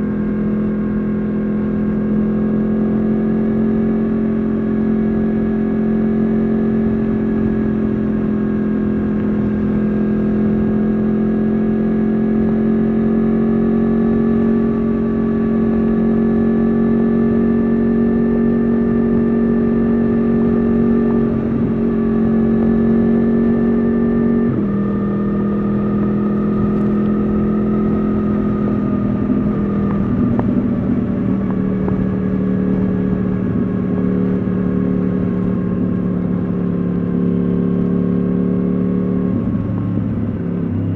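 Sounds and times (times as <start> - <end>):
motorcycle engine running onboard: 0.0 - 40.9.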